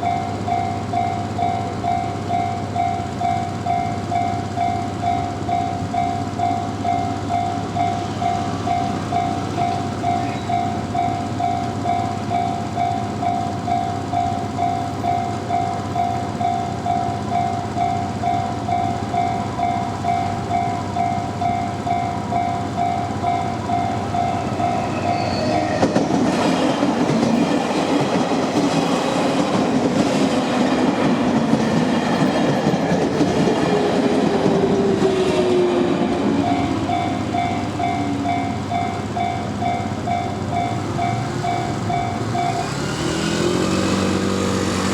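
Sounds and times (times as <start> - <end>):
level-crossing warning bell: 0.0 - 44.9
train running past: 0.0 - 44.9.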